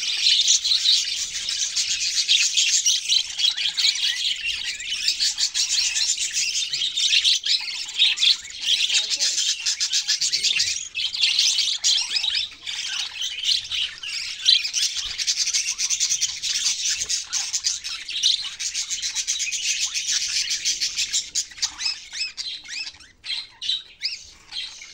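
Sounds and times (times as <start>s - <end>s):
budgerigars chattering: 0.0s - 24.9s.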